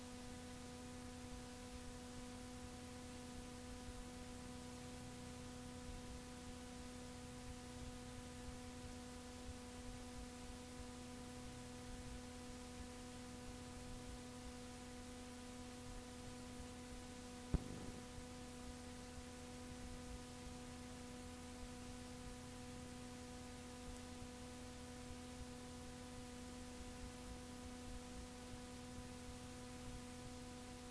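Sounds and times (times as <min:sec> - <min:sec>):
low electrical hum: 0:00.0 - 0:30.9
tape hiss: 0:00.0 - 0:30.9.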